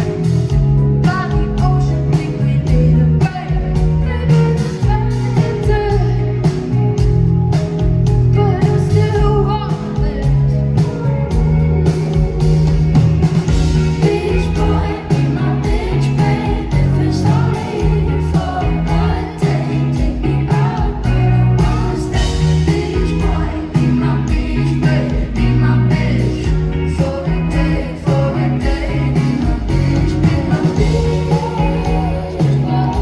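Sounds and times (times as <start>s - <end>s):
live pop-rock band: 0.0s - 33.0s
woman singing: 1.0s - 6.8s, 8.3s - 11.7s, 13.8s - 33.0s
steady drum beat: 2.7s - 33.0s.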